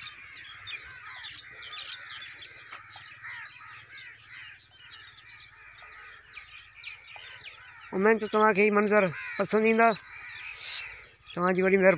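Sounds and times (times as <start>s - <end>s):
flock of small birds chirping: 0.0s - 11.9s.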